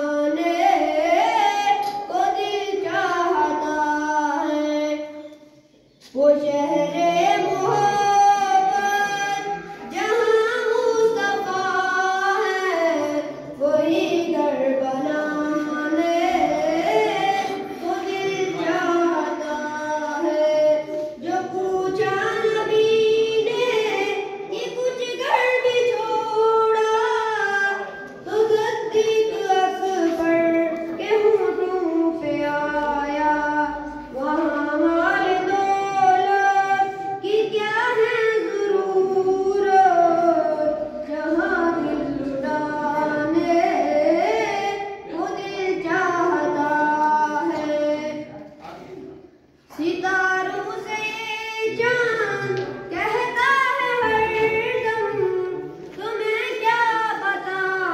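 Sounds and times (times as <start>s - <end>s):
boys singing devotional song: 0.0s - 57.9s.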